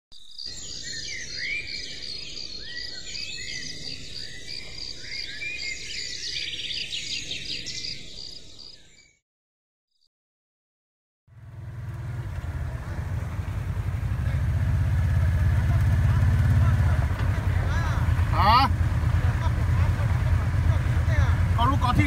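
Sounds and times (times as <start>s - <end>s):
many birds chirping: 0.2s - 9.2s, 11.4s - 22.0s.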